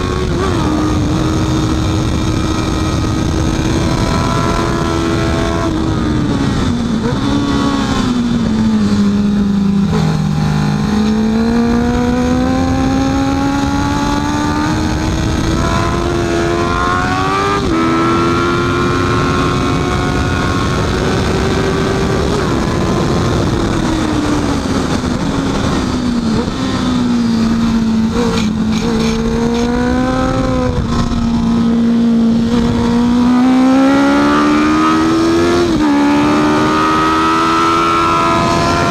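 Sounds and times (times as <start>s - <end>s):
gear change: 0.0s - 38.9s
motorcycle engine revving: 0.0s - 38.9s
wind noise rushing: 0.0s - 38.9s.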